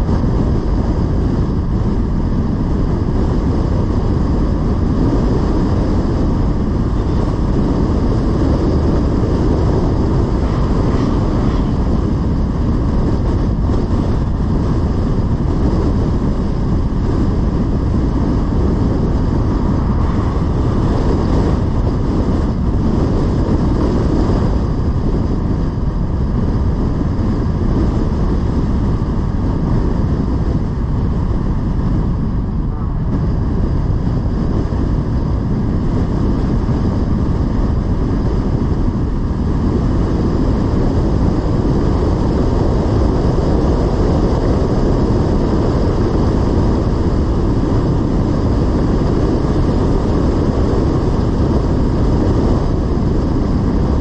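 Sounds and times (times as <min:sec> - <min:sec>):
car road noise rumble: 0:00.0 - 0:54.0
wind noise: 0:00.0 - 0:54.0.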